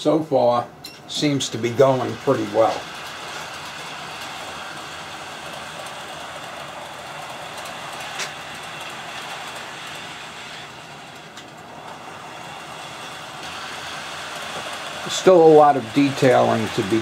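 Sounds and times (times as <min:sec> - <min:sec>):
model train motor and wheels humming: 0:00.0 - 0:17.0.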